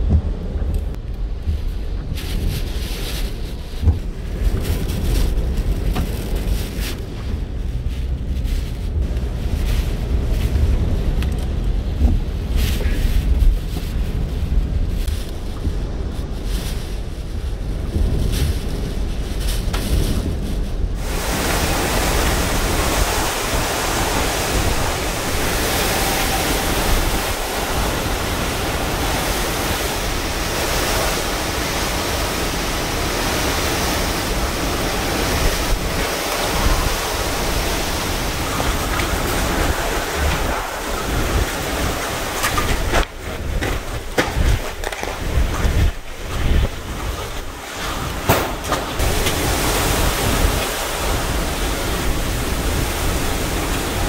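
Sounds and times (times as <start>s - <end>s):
driving rain: 0.0s - 54.0s
hissing rush of wind: 0.0s - 54.0s
wind buffeting microphone: 0.0s - 54.0s.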